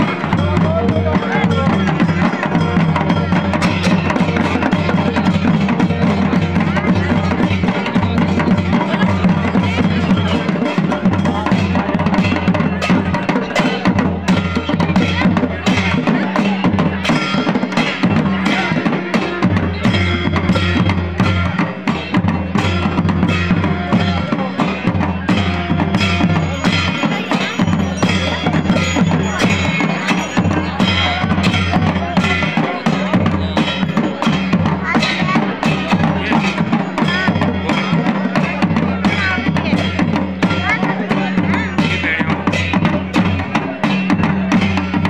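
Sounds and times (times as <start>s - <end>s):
crowd voices: 0.0s - 45.0s
folk drumming on drums: 0.0s - 45.0s.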